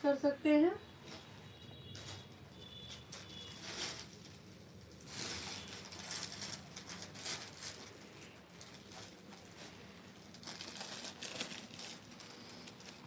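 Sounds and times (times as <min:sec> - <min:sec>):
fabric rustling: 0:01.0 - 0:13.0.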